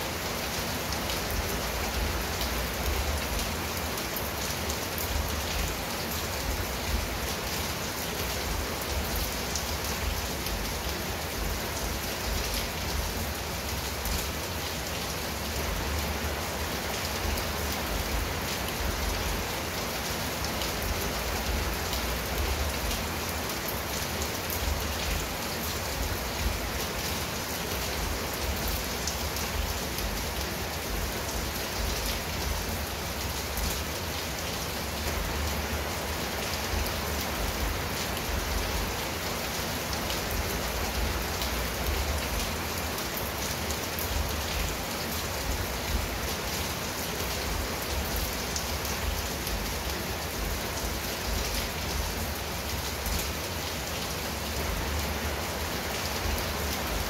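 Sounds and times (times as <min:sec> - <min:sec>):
rain on a tile roof and leaves: 0:00.0 - 0:57.0.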